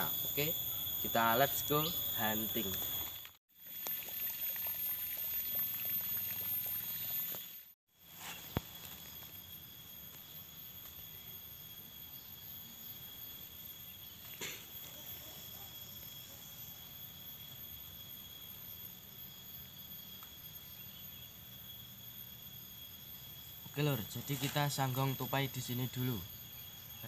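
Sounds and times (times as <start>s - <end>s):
insects singing: 0.0s - 27.0s.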